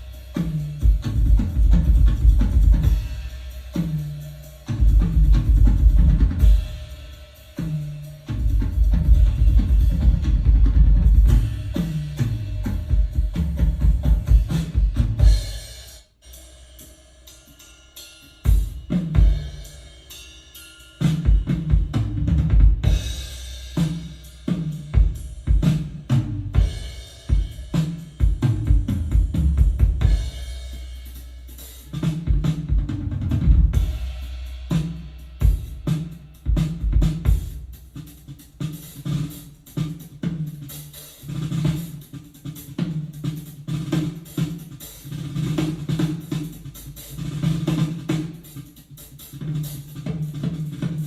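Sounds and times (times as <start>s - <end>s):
drum-heavy music: 0.0s - 51.0s.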